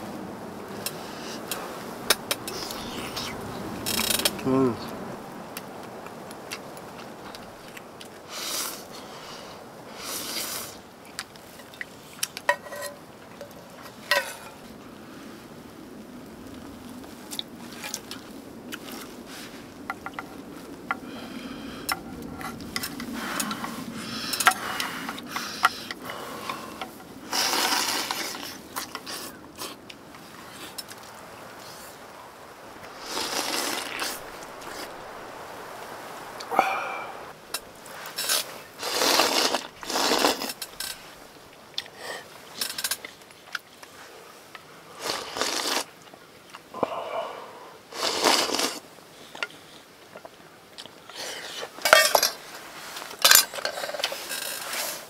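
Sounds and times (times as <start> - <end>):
rustling: 0.0 - 46.3, 47.9 - 55.0
camping gear clicks and clanks: 0.7 - 14.8, 16.5 - 21.1, 21.8 - 32.1, 32.7 - 47.0, 47.9 - 55.0.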